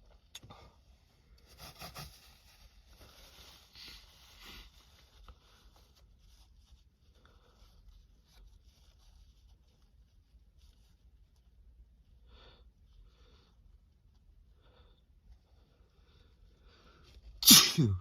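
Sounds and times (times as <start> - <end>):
faint rustling and scraping: 0.0 - 17.4.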